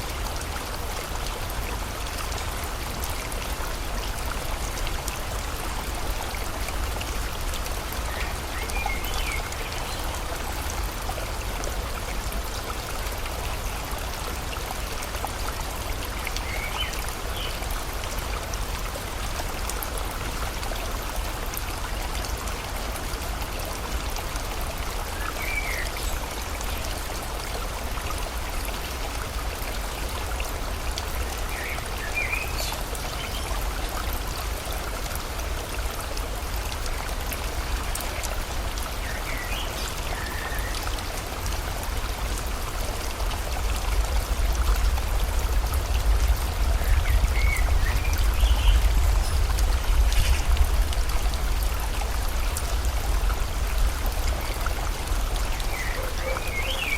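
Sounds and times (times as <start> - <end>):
rain: 0.0 - 56.9
stream rushing water: 0.0 - 56.9.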